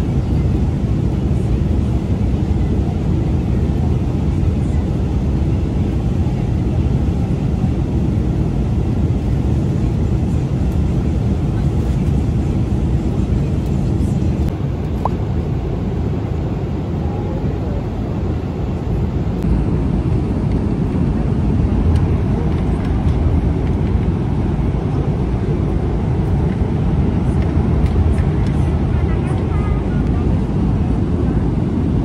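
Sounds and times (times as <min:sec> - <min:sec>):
jet airliner cabin rumble: 0:00.0 - 0:32.0.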